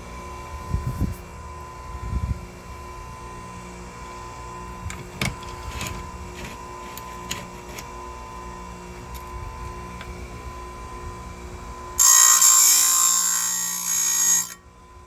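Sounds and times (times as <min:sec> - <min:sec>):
chain sharpener motor whine: 0:00.0 - 0:15.0.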